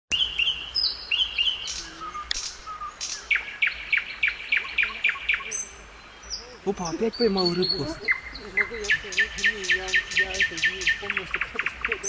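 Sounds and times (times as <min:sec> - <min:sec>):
nightingale singing: 0:00.1 - 0:12.0.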